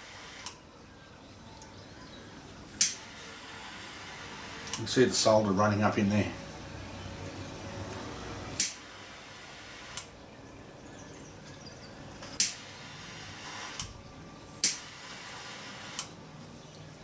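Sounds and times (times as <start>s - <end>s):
steady hiss: 0.0s - 0.6s, 2.2s - 17.0s.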